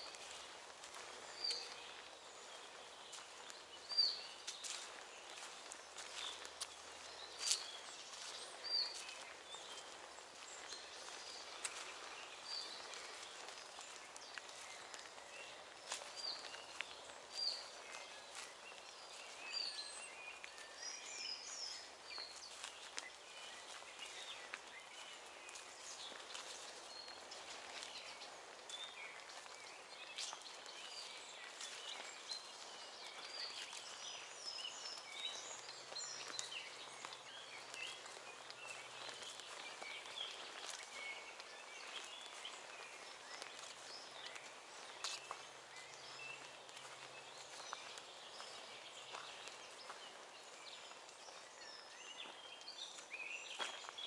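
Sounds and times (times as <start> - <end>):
faint forest background hiss: 0.0 - 54.0
soft footsteps on grass: 0.0 - 54.0
songbirds chirping and trilling: 0.0 - 54.0.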